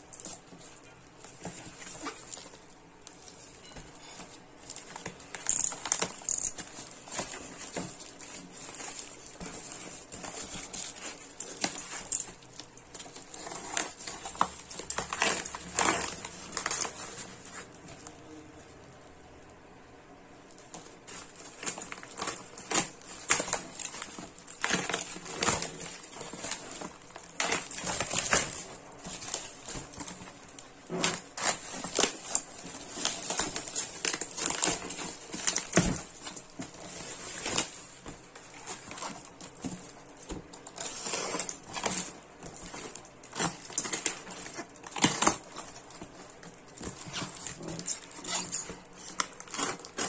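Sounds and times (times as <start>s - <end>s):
bubble wrap crinkling: 0.0s - 19.6s, 20.2s - 50.0s.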